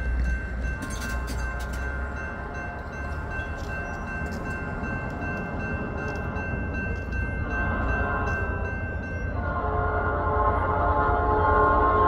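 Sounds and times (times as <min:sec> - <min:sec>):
diesel freight train rumble: 0:00.0 - 0:12.0.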